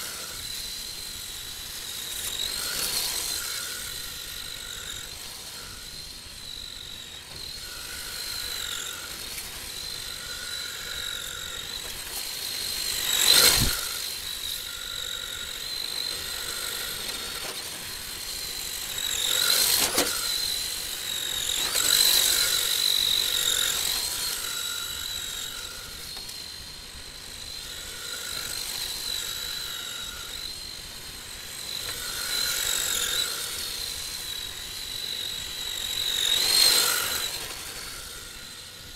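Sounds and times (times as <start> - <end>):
rc car electric motor whining: 0.0 - 38.9.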